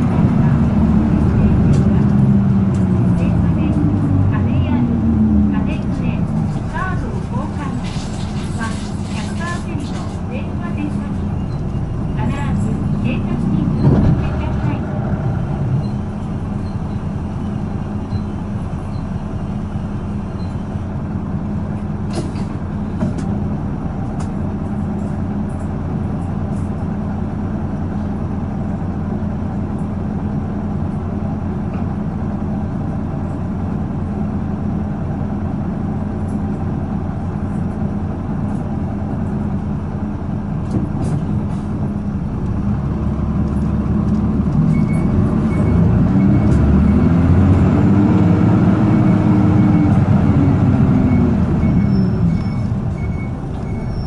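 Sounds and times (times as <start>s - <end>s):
bus diesel engine idling: 0.0s - 54.0s.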